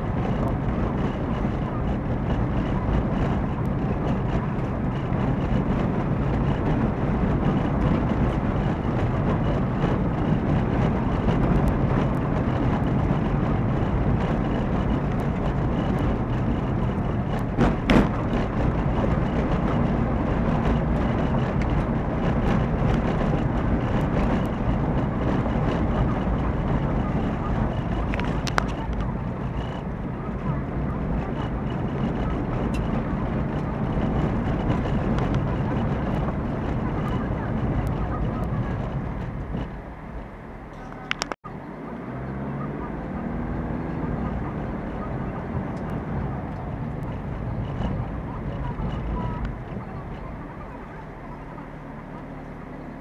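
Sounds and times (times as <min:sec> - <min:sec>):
car interior road and engine rumble: 0:00.0 - 0:53.0.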